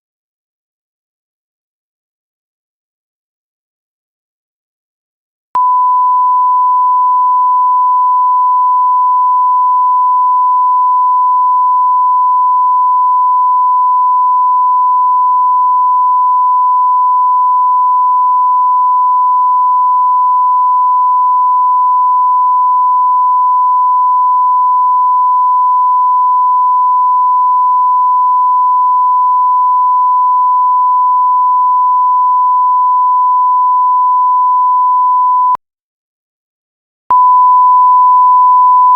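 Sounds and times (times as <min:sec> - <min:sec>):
sine test tone: 0:05.6 - 0:35.6, 0:37.1 - 0:38.9.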